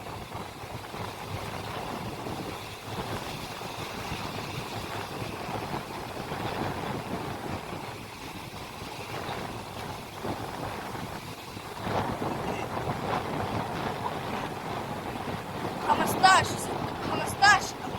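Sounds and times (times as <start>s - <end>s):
boat engine running: 0.0s - 17.9s
water noise: 0.0s - 17.9s
wind: 0.0s - 17.9s.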